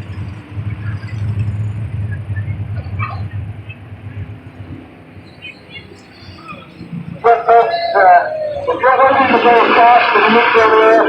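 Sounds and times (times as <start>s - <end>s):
sprint car engines rumbling: 0.0s - 11.0s.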